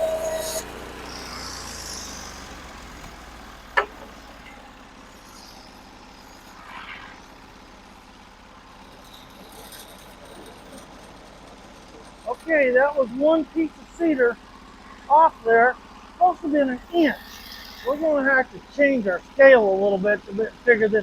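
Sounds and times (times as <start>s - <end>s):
sawmill gas engine running: 0.0s - 21.0s.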